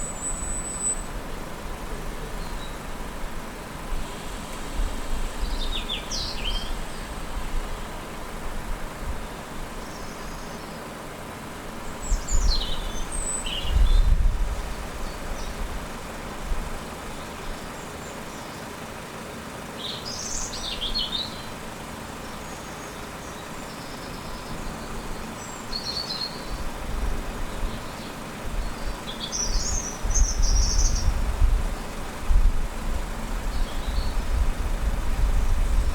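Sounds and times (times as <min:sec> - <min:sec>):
small birds chirping: 0:00.0 - 0:01.2, 0:02.0 - 0:03.1, 0:04.0 - 0:08.4, 0:09.2 - 0:35.9
steady outdoor background: 0:00.0 - 0:35.9.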